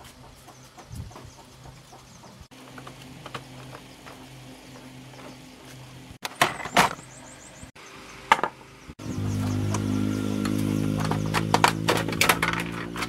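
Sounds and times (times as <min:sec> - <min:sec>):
steady hum: 0:00.0 - 0:11.8.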